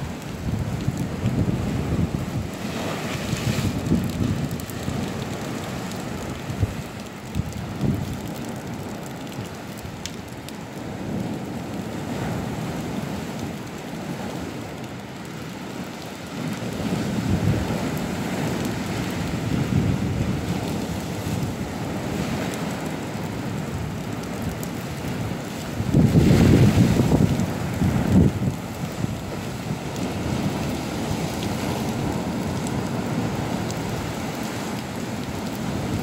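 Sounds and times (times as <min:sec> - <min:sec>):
sea waves breaking against a wall: 0:00.0 - 0:10.0, 0:10.8 - 0:36.0.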